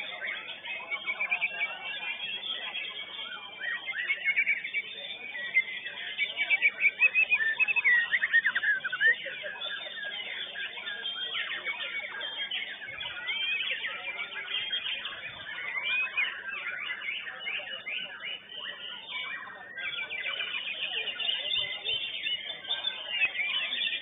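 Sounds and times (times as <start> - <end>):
birds singing whistled trills: 0.0 - 24.0
loud close birdsong: 0.0 - 24.0.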